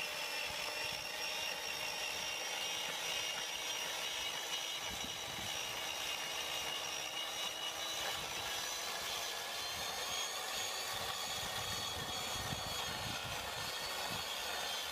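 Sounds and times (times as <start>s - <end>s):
chainsaw cutting log: 0.0s - 14.9s.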